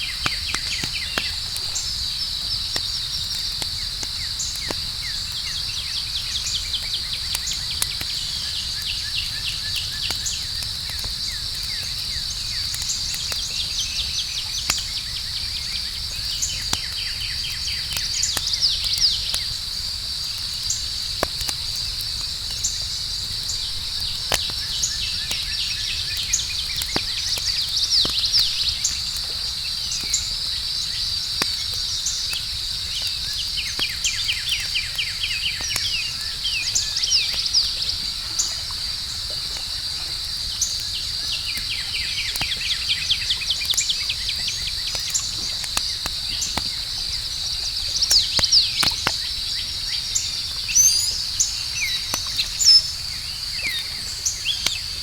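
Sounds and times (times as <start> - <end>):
campfire crackling: 0.0 - 55.0
crickets chirping: 0.0 - 55.0.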